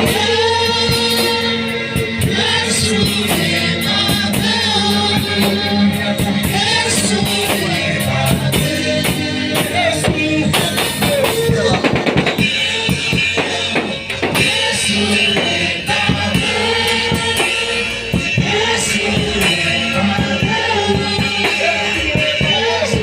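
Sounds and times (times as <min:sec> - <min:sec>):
drum kit: 0:00.0 - 0:23.0
person singing: 0:00.0 - 0:23.0
worship band playing: 0:00.0 - 0:23.0.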